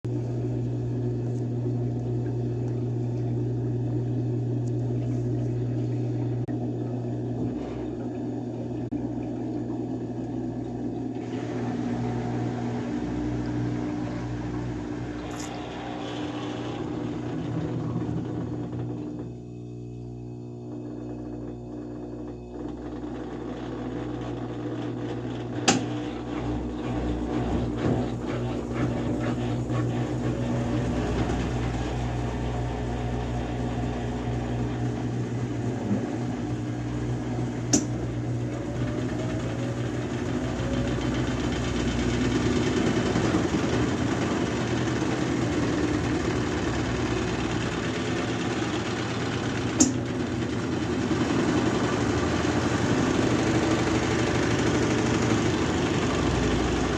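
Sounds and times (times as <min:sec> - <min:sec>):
washing machine spinning hum: 0:00.0 - 0:56.9.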